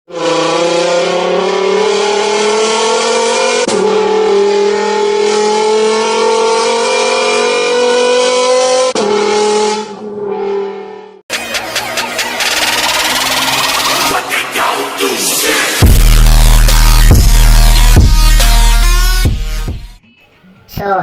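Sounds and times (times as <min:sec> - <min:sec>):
vehicle engine accelerating: 0:00.1 - 0:19.7.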